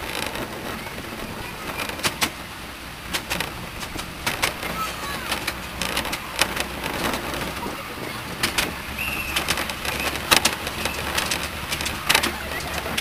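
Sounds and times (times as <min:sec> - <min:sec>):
miniature train engine hum: 0:00.0 - 0:13.0
wheels clicking over rail joints: 0:00.0 - 0:13.0.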